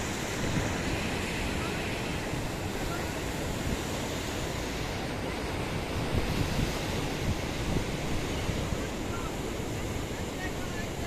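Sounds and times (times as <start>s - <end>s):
sea waves breaking: 0.0s - 11.0s
wind buffeting the microphone: 0.0s - 11.0s.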